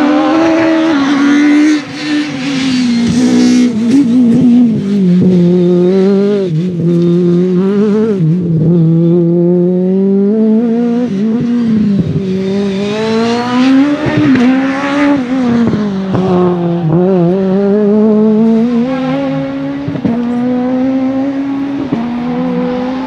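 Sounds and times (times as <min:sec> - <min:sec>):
car engine revving high: 0:00.0 - 0:23.0.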